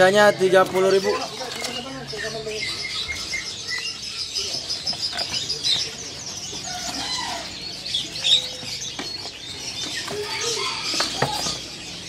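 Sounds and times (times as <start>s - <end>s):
songbirds chirping and calling: 0.0s - 12.0s.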